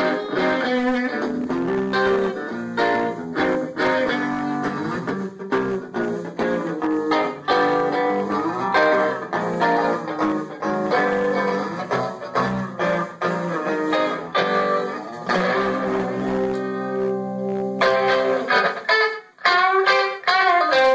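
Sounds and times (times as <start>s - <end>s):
overdriven electric guitar licks: 0.0s - 20.9s.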